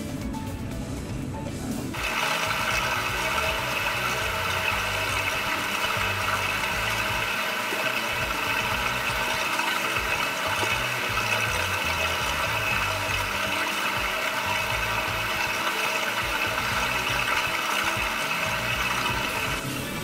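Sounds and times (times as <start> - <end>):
motor and spinning wheel: 2.0 - 20.0.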